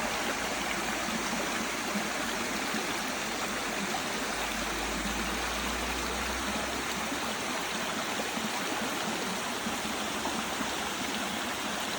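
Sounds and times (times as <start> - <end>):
stream running over rocks: 0.0 - 11.9.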